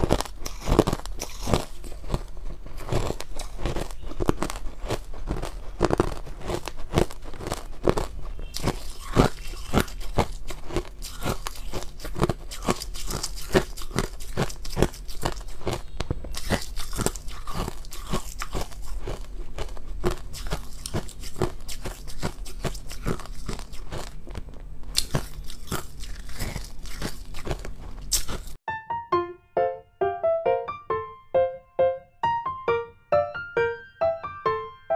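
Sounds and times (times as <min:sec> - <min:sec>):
chewing crunchy ice: 0:00.0 - 0:28.6.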